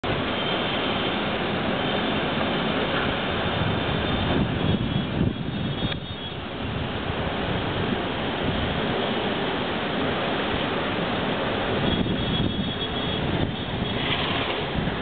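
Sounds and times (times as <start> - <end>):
roaring wind: 0.0 - 15.0.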